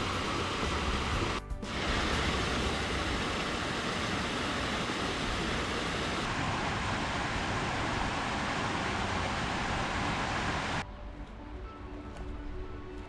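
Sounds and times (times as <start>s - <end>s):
water rushing over weir: 0.0s - 10.8s.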